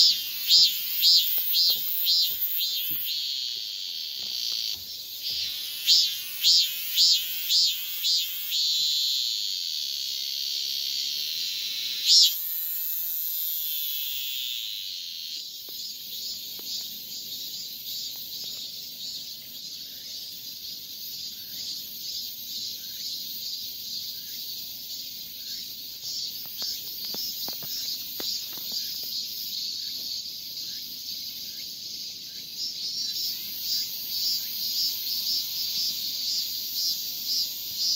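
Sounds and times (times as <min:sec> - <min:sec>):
chorus of cicadas pulsing: 0:00.0 - 0:37.9
cicada buzzing song: 0:00.0 - 0:37.9.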